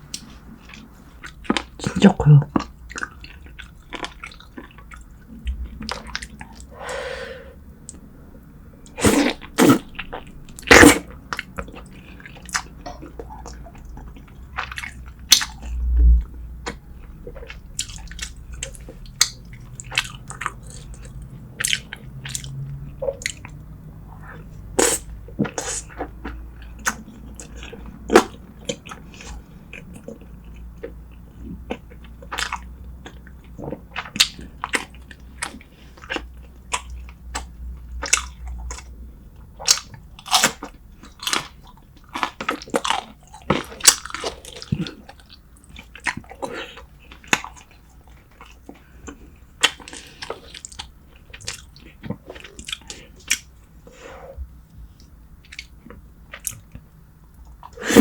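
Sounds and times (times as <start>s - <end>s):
chewing and crunching food: 0.0s - 6.8s, 7.8s - 58.0s.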